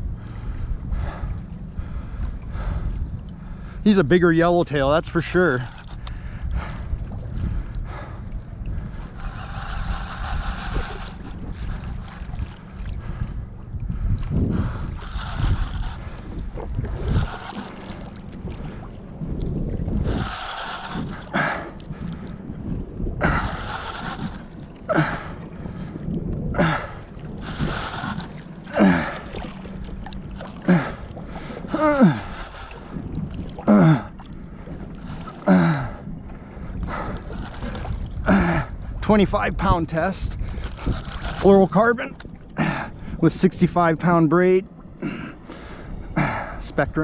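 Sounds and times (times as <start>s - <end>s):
water sloshing around kayak: 0.0s - 47.0s
wind buffeting microphone: 0.0s - 47.0s.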